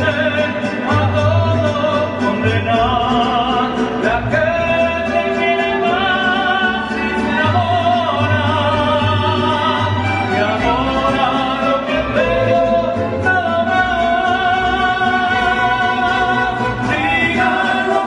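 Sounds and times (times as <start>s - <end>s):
low bass guitar line: 0.0s - 18.0s
mariachi ensemble playing: 0.0s - 18.0s.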